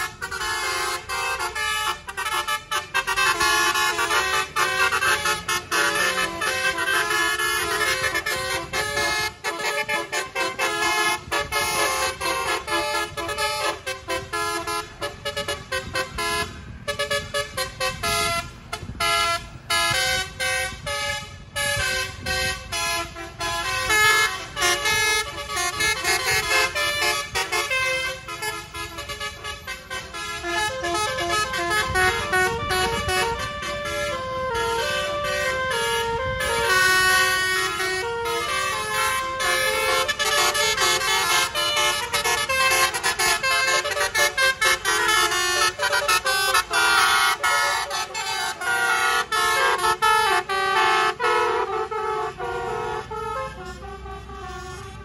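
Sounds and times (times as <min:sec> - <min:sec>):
multi-trumpet bus horn tune: 0:00.0 - 0:55.0.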